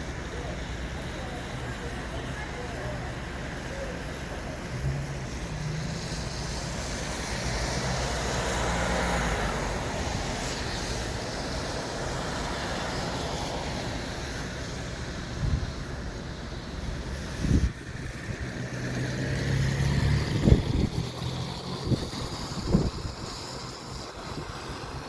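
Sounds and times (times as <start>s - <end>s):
street traffic passing: 0.0s - 25.0s.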